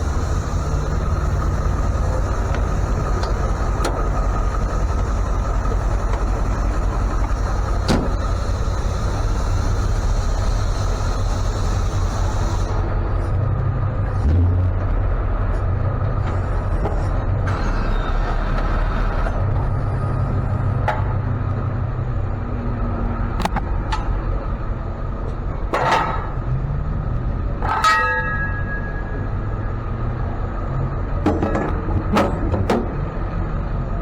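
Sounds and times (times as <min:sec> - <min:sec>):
truck engine and road rumble: 0:00.0 - 0:34.0.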